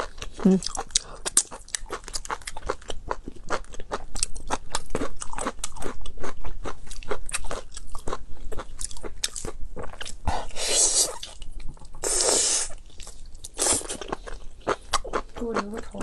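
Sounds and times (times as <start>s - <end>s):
chewing with crunches and clicks: 0.0s - 12.0s, 12.7s - 16.0s.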